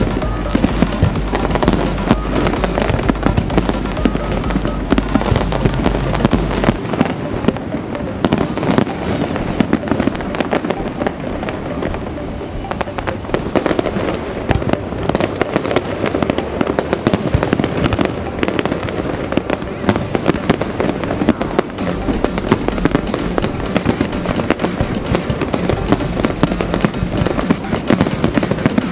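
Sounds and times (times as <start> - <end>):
fireworks crackling and banging: 0.0 - 28.9.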